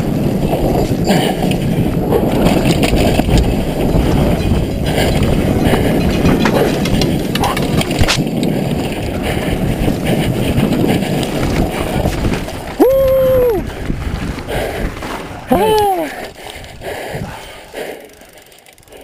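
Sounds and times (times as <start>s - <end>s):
rattling chain and suspension: 0.0s - 12.8s, 13.9s - 19.0s
wind on microphone: 0.0s - 18.0s
bike tyre noise on dirt: 0.0s - 19.0s.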